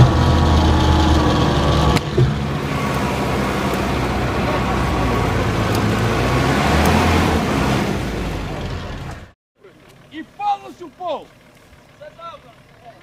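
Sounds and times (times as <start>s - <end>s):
off-road engine running under load: 0.0s - 13.0s
vehicle engine running close up: 0.0s - 13.0s.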